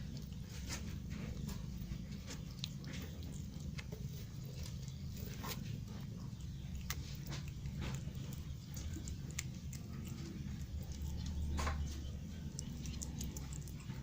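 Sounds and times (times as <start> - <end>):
kitten chewing and crunching: 0.0 - 14.0
steady low rumble: 0.0 - 14.0.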